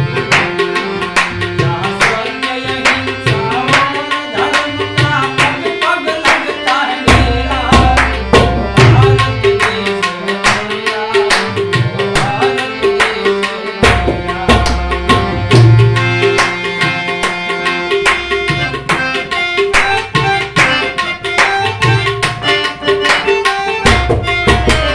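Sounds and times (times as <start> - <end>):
harmonium melody: 0.0 - 24.9
tabla rhythm: 0.0 - 24.9.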